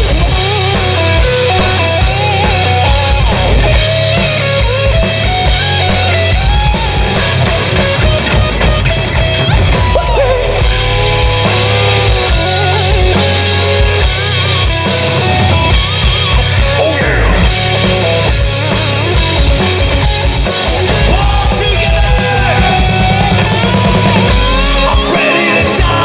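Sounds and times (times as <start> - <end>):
lead guitar solo: 0.0 - 26.0
rock band playing: 0.0 - 26.0.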